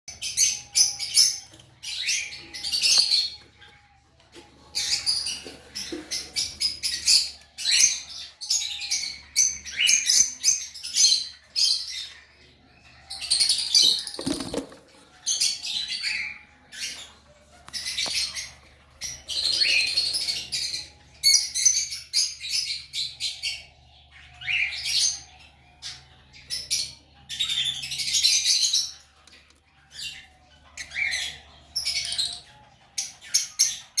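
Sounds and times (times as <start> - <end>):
bird chicks cheeping: 0.1 - 34.0.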